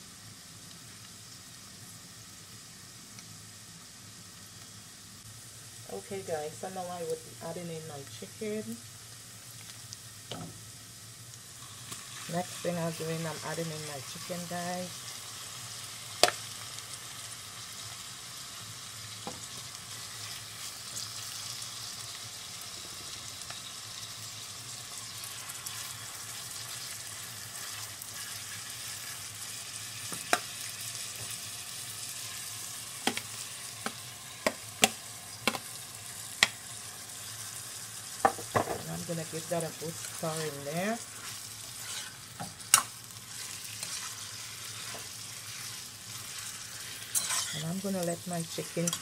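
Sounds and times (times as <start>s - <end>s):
chicken frying in oil: 0.0s - 49.0s.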